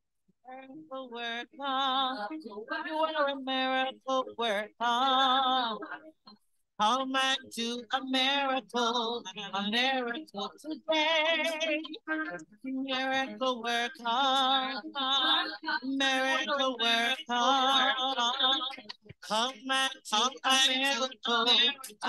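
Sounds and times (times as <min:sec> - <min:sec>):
woman singing with vibrato: 0:00.5 - 0:22.0.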